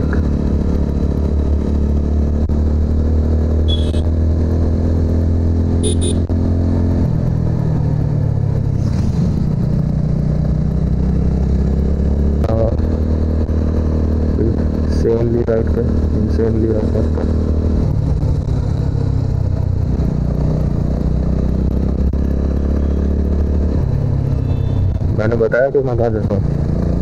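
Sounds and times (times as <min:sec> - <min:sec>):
motorcycle engine running: 0:00.0 - 0:08.7, 0:09.3 - 0:27.0.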